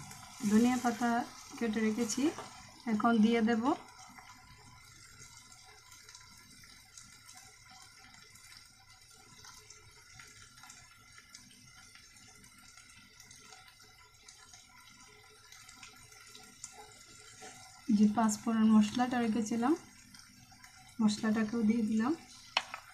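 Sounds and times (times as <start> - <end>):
curry simmering in a pan: 0.0 - 22.9.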